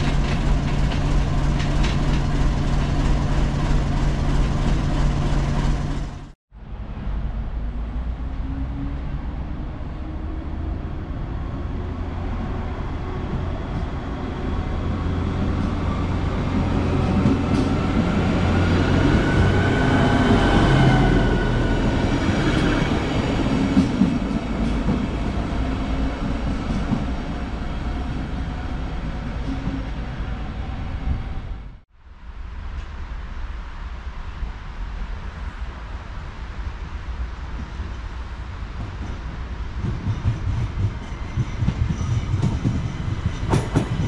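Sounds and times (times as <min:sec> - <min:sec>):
train rumbling past: 0:00.0 - 0:44.0.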